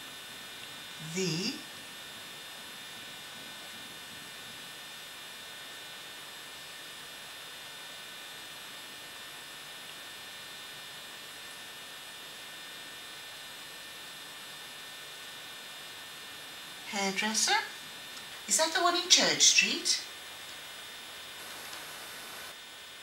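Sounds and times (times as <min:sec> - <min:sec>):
electrical hum and hiss: 0:00.0 - 0:23.0
faint high constant tones: 0:00.0 - 0:23.0.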